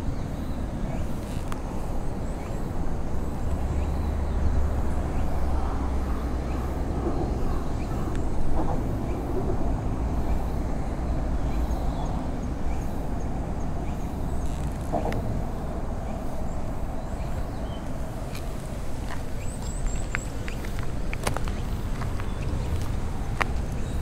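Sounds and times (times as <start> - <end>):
outdoor background rumble: 0.0 - 24.0.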